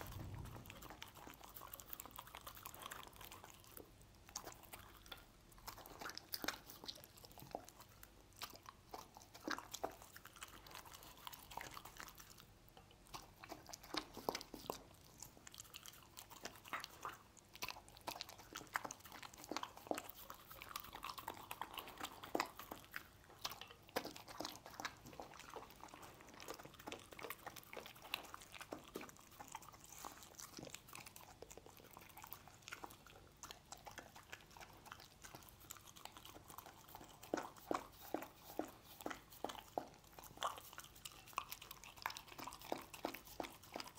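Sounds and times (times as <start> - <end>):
dog chewing meat: 0.0 - 43.9.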